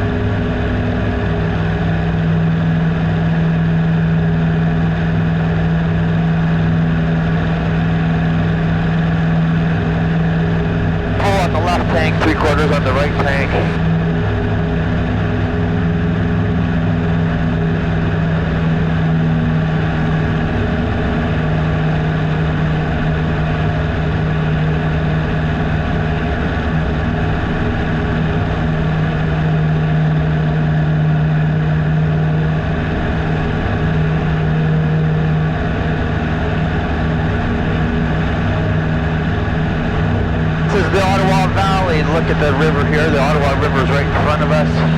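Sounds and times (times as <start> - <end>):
airplane engine and propeller droning: 0.0 - 25.9, 29.1 - 44.9.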